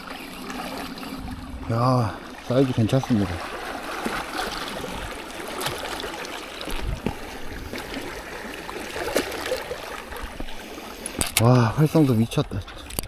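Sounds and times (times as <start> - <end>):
small waves lapping on rocks: 0.0 - 13.0.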